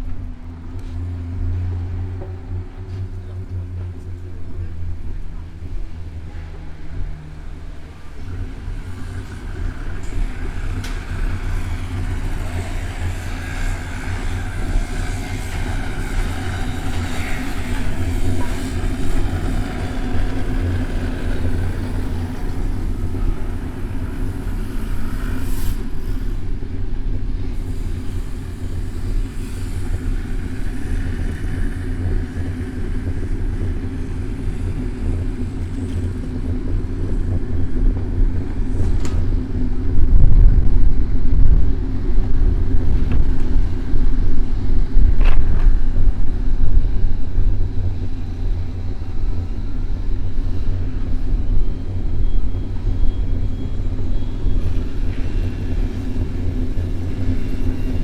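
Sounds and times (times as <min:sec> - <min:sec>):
traffic noise: 0:00.0 - 0:58.0
wind and road noise: 0:00.0 - 0:58.0.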